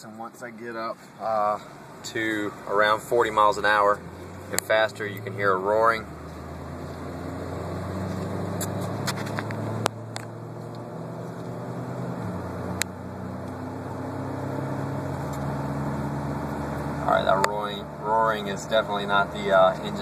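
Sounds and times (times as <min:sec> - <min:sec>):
low roaring drone in car cabin: 0:01.2 - 0:20.0.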